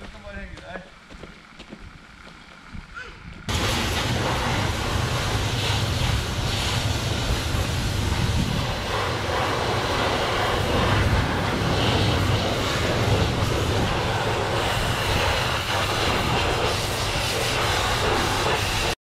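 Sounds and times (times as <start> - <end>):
high-pressure water jet hissing: 3.5 - 19.0
pressure washer motor humming: 3.5 - 19.0.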